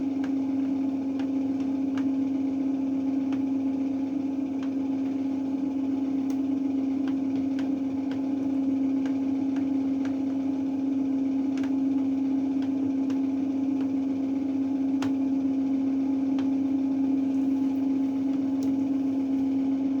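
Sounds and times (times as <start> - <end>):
washing machine humming: 0.0 - 20.0.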